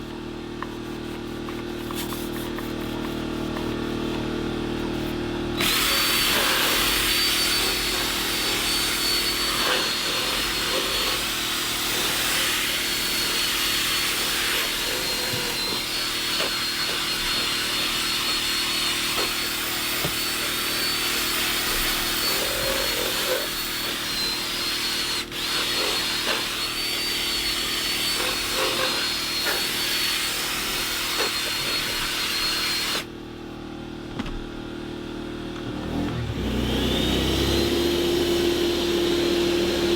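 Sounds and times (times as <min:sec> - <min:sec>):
brush scrubbing upholstery: 0:00.6 - 0:33.0
cordless drill motor whine: 0:04.0 - 0:33.1, 0:35.8 - 0:39.9.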